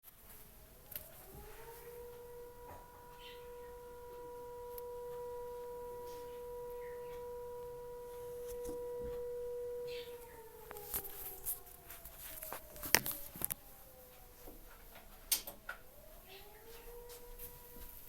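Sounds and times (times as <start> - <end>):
electric siren steady tone: 0.2 - 18.0.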